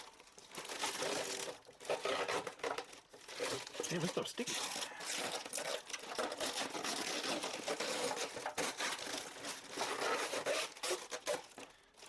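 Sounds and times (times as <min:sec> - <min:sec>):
plastic packaging peeled and crinkled: 0:00.0 - 0:11.7.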